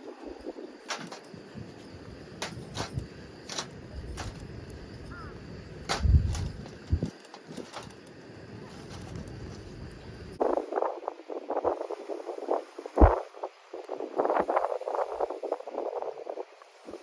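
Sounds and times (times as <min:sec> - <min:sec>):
firewood crackling: 0:00.0 - 0:16.0.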